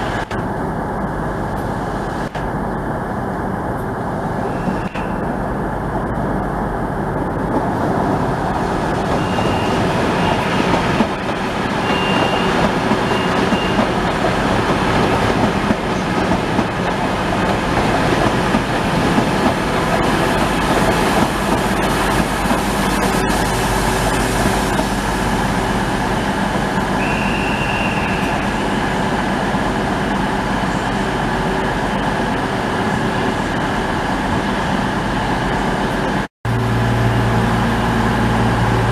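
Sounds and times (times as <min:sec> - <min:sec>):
train wheels rumbling: 0:00.0 - 0:38.9.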